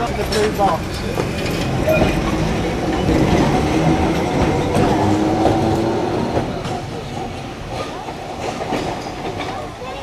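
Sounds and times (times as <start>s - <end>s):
tram wheels rumbling on rails: 0.0s - 10.0s.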